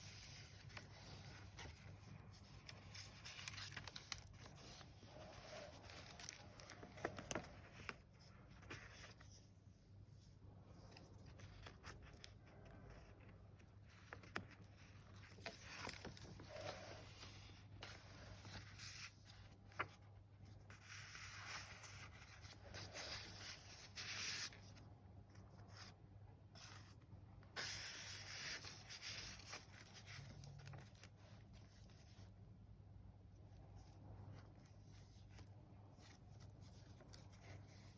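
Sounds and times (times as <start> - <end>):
paper pages rustling: 0.0 - 9.5, 10.7 - 26.0, 26.6 - 32.4, 33.8 - 37.9.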